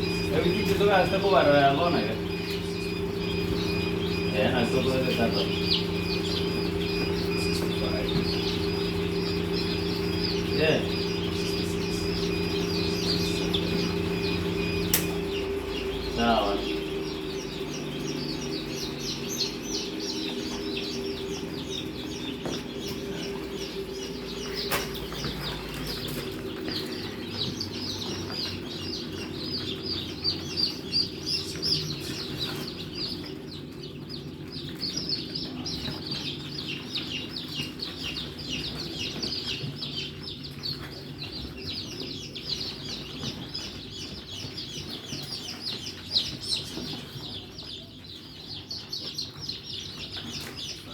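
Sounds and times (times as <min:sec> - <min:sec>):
low steady hum: 0:00.0 - 0:48.1
chicks peeping: 0:00.0 - 0:50.9.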